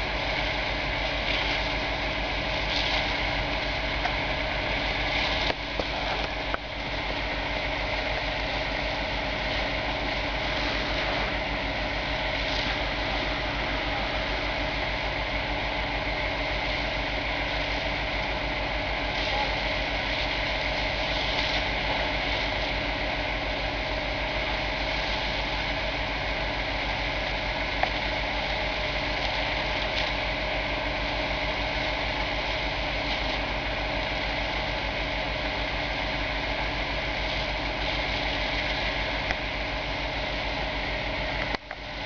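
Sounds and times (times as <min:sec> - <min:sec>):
fire engine running steadily: 0:00.0 - 0:42.0.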